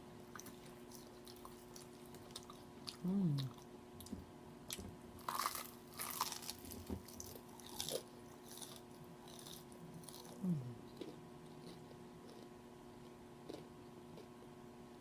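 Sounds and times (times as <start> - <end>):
low hum from the throat: 0.0 - 5.0, 6.5 - 15.0
person chewing crunchy food: 0.3 - 4.1, 4.7 - 14.4.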